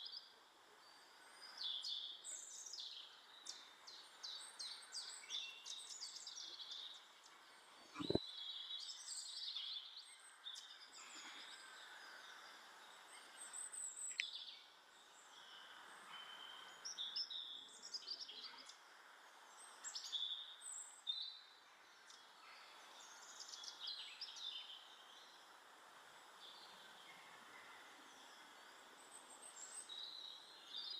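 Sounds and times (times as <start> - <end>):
songbird chirps: 0.0 - 30.9.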